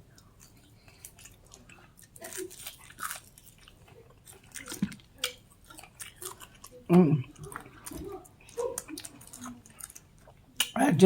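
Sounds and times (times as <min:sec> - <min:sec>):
person chewing crunchy food: 0:00.0 - 0:10.8.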